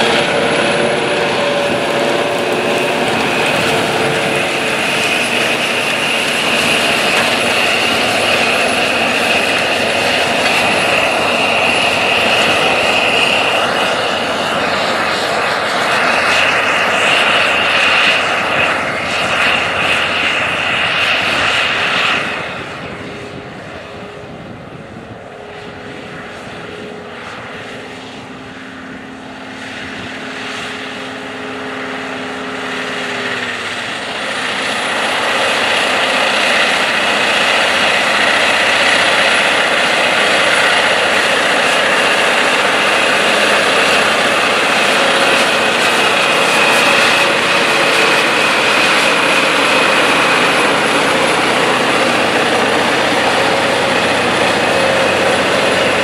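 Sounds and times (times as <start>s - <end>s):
high whine: 0.0s - 56.0s
tractor diesel engine under load: 0.0s - 56.0s.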